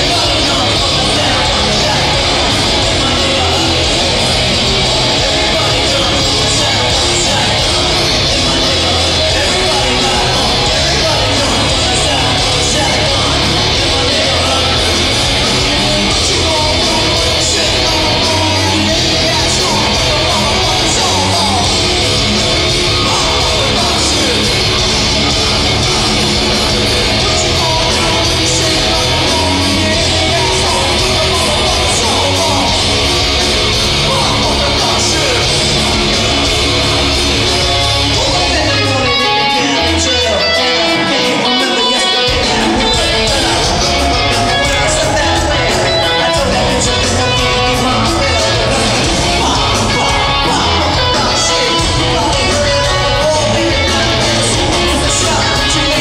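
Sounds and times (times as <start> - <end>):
drums: 0.0 - 56.0
electric guitar: 0.0 - 56.0
heavy rock band playing: 0.0 - 56.0
yelled vocals: 0.0 - 56.0.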